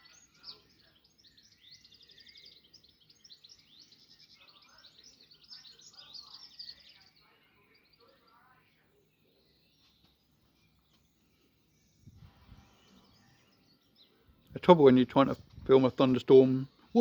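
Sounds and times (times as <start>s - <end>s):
faint birds chirping and trilling: 0.0s - 17.0s.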